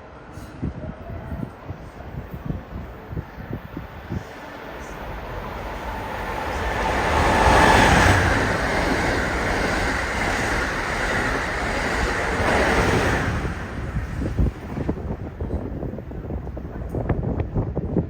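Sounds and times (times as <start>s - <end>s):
train rushing past: 0.2s - 17.8s
wind buffeting microphone: 0.5s - 18.0s.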